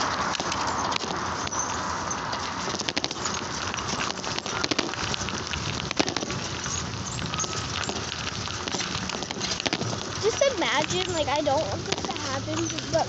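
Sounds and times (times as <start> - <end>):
bicycle tyre and road noise: 0.0 - 13.0
rattling clicks from bike: 0.0 - 13.0.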